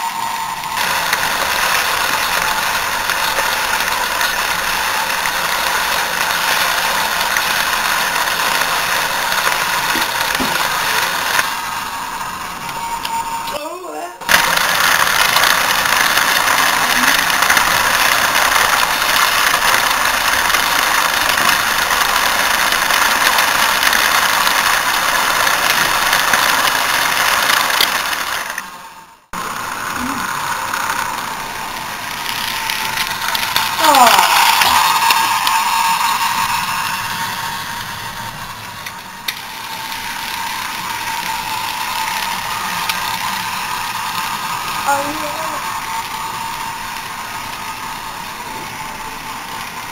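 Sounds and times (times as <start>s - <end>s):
toy train running on track: 0.0s - 49.9s.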